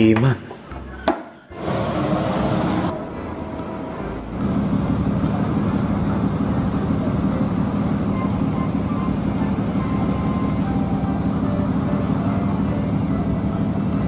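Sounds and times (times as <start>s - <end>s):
bus diesel engine running: 1.5s - 14.0s.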